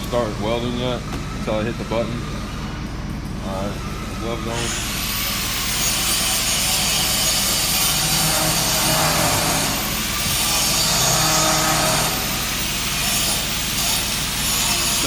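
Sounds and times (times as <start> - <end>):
machinery humming and whirring: 0.0 - 15.0.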